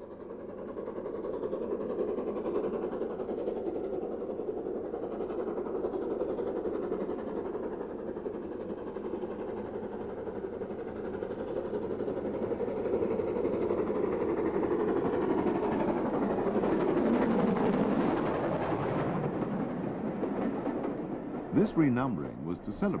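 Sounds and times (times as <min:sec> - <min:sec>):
steam train rumbling: 0:00.0 - 0:23.0.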